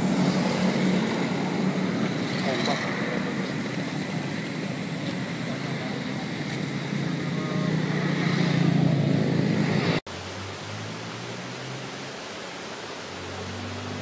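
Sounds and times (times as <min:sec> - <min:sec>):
outdoor traffic noise: 0:00.0 - 0:14.0.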